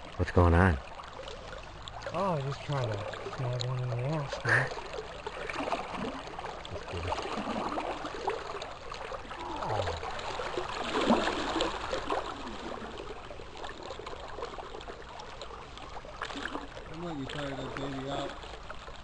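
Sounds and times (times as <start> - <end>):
river flowing and gurgling: 0.0 - 19.0
small splashes: 0.0 - 19.0.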